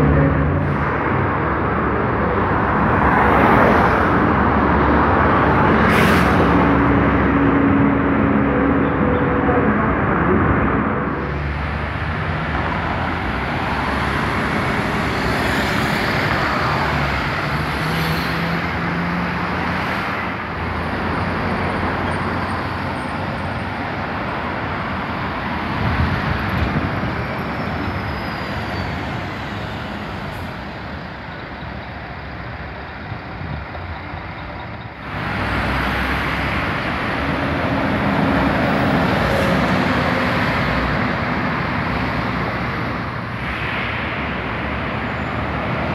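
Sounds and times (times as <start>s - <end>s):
buses passing close by: 0.0s - 45.9s
steady traffic noise: 0.0s - 45.9s.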